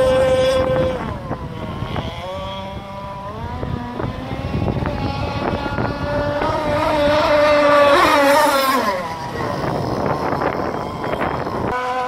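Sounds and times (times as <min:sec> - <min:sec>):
model boat engine buzzing: 0:00.0 - 0:12.0.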